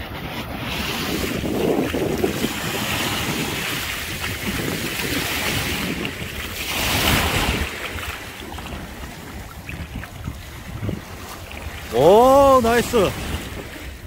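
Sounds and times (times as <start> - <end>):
small waves washing: 0.0 - 14.0
wind buffeting microphone: 0.0 - 14.0.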